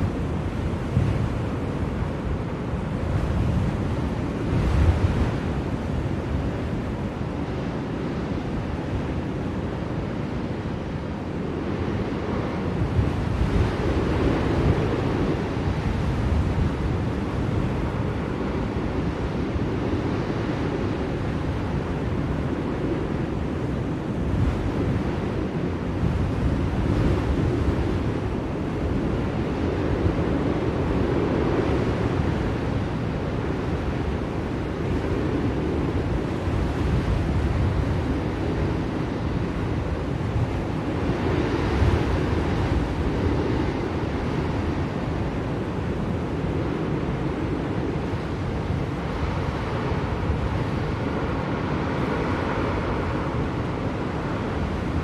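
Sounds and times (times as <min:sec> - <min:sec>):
blizzard wind blowing: 0:00.0 - 0:55.0.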